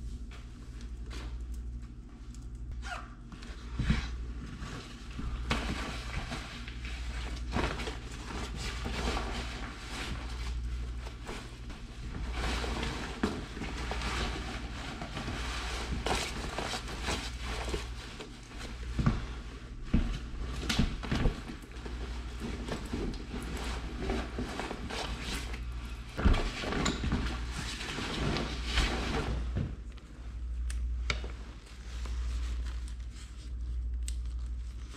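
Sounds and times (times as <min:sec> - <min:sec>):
low steady hum: 0:00.0 - 0:34.9
clothing rustling: 0:00.2 - 0:34.9.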